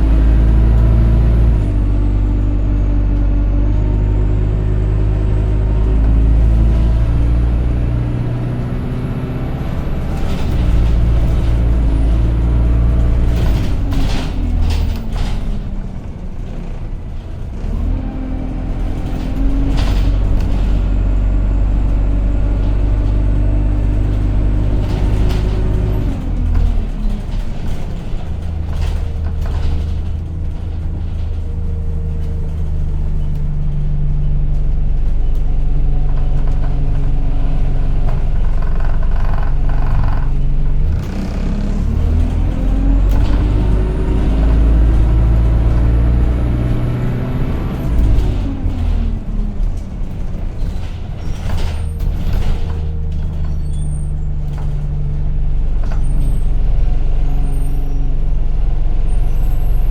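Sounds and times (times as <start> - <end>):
bus body rattles and clicks: 0.0 - 59.9
bus engine whining: 0.0 - 59.9.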